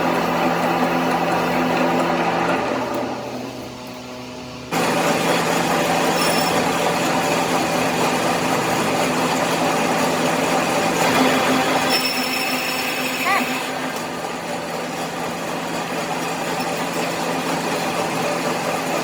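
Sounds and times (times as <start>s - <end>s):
machine hum and whir: 0.0s - 19.0s.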